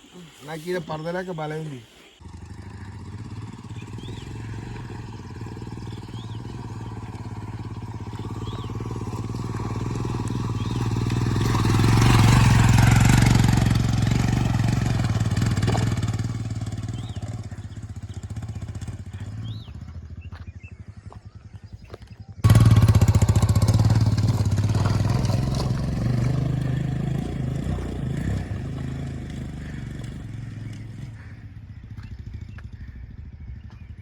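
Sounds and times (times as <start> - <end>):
motorcycle engine running: 2.2 - 34.0.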